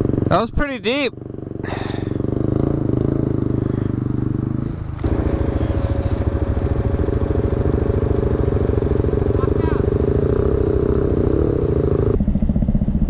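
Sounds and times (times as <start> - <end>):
atv engine idling: 0.0 - 12.8.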